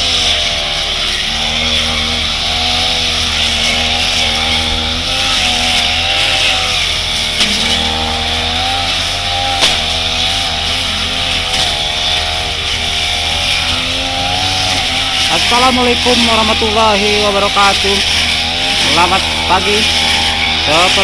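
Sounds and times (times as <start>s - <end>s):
brush cutter running at full throttle: 0.0s - 21.0s.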